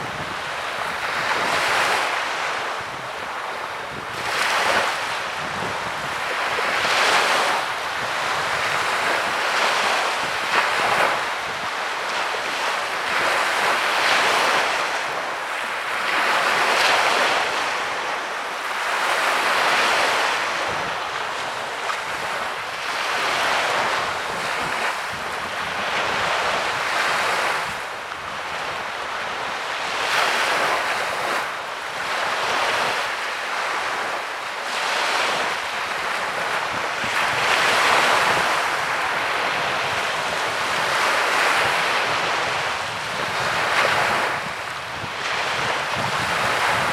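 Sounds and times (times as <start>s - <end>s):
sea waves breaking on beach: 0.0s - 46.9s.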